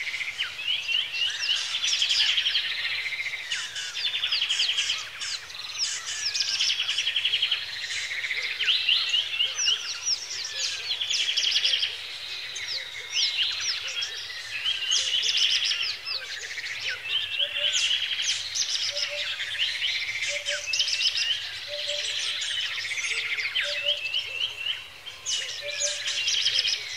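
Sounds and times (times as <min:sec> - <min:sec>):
birds trilling and chirping: 0:00.0 - 0:26.9.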